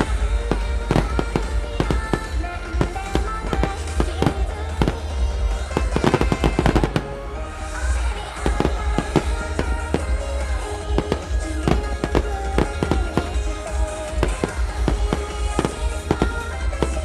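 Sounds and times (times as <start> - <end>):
firework shells bursting: 0.0 - 17.0
pop song: 0.0 - 17.0.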